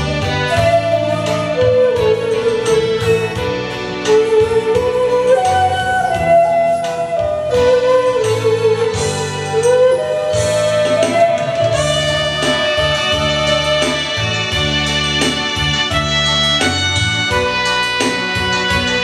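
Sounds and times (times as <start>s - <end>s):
backing track with keyboard and bass: 0.0s - 19.0s
end-blown flute melody: 0.0s - 19.0s.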